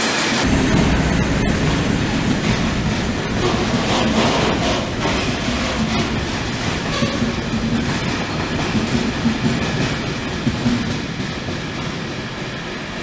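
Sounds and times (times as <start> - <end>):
train rumbling past: 0.0 - 13.0
wheels clattering on rails: 0.0 - 13.0.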